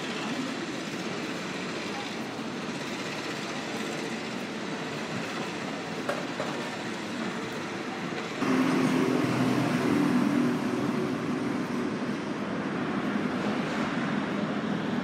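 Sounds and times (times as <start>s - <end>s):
outdoor traffic noise: 0.0s - 15.0s.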